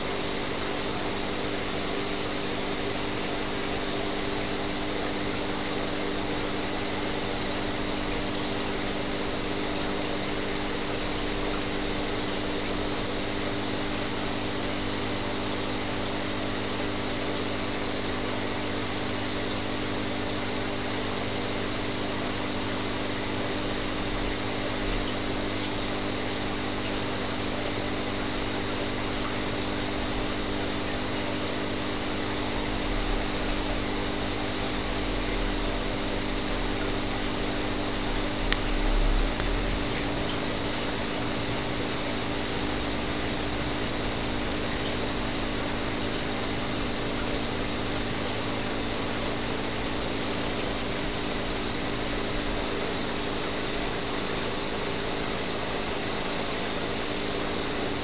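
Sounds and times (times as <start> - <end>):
aquarium pump humming: 0.0 - 58.0.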